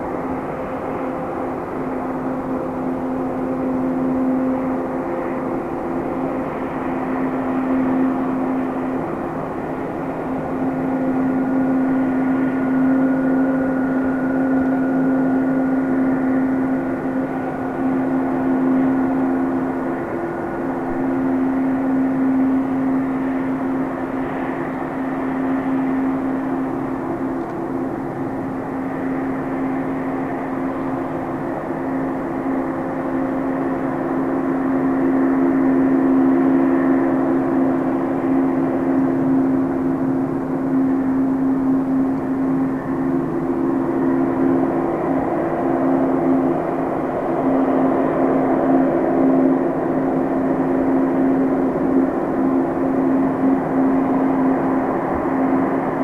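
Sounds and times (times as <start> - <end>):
high engine whine: 0.0 - 56.0
jet engines idling drone: 0.0 - 56.0.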